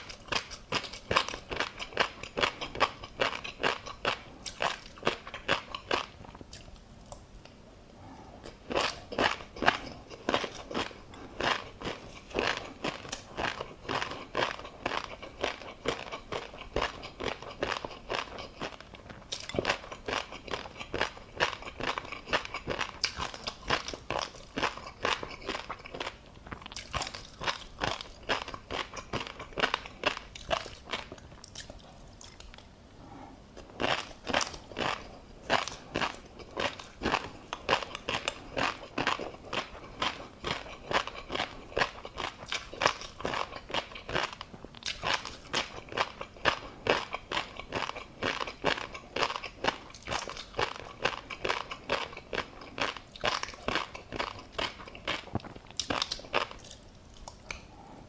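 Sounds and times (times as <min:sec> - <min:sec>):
crunchy chewing close up: 0:00.0 - 0:07.3, 0:08.0 - 0:57.7.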